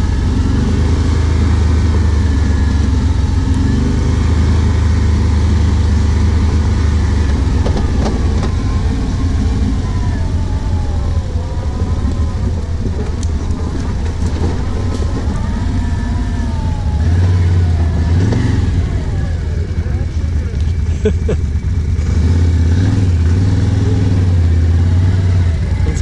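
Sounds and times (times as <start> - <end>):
atv engine running: 0.0 - 26.0
engine whine rising and falling: 0.0 - 26.0.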